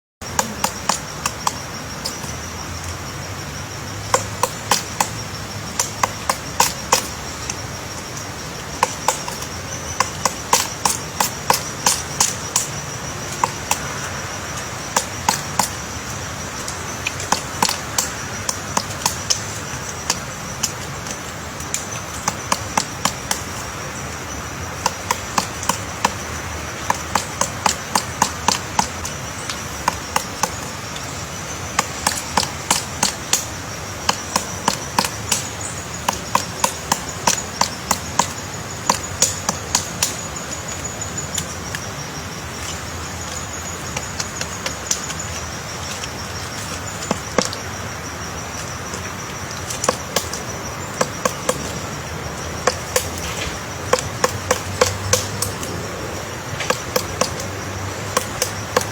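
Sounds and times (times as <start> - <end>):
woodpecker pecking wood: 0.2 - 3.0, 4.0 - 58.9.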